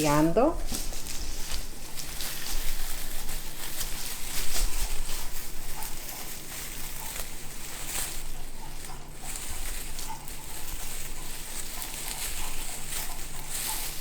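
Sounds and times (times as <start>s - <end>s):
ribbon rustling: 0.0s - 14.0s.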